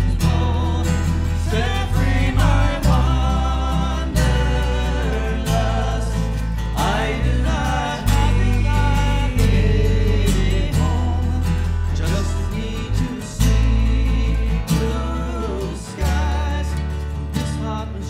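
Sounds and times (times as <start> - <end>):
heavy bass line: 0.0 - 17.7
strummed acoustic guitar: 0.0 - 18.0.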